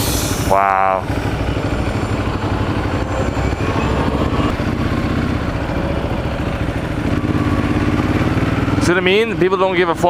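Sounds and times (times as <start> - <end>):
road and wind noise: 0.0 - 10.0
motorcycle engine running: 0.3 - 10.0.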